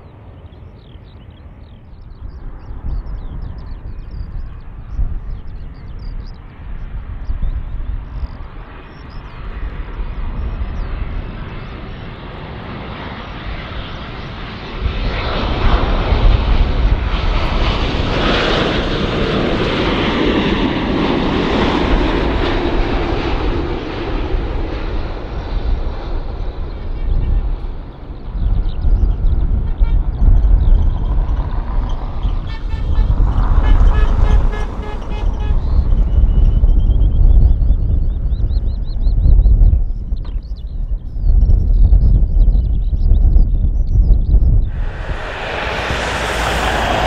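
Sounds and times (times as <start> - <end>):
jet engines passing by: 0.0 - 36.8, 44.6 - 47.0.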